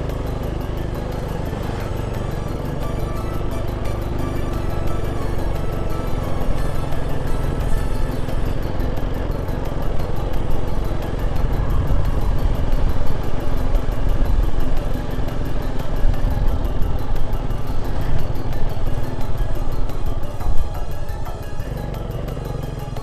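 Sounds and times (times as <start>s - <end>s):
background music: 0.0s - 23.0s
motorcycle engine rumbling: 0.0s - 23.0s.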